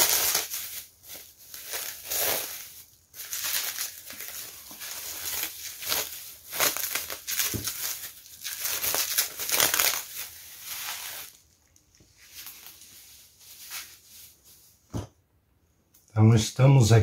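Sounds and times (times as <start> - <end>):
bubble wrap crinkling: 0.0 - 14.8.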